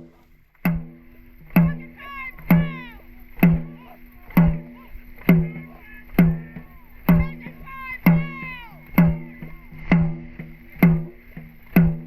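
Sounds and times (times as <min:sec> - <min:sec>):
drum beaten at steady rhythm: 0:00.0 - 0:12.0.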